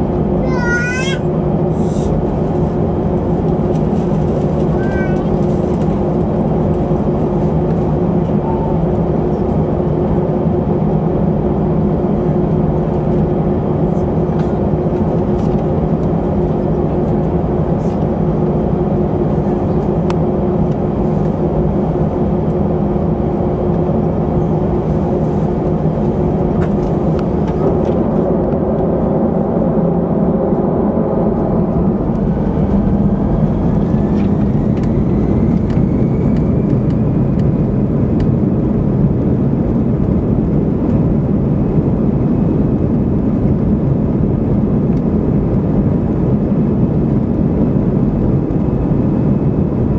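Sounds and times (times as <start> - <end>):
airplane engine drone: 0.0 - 49.9.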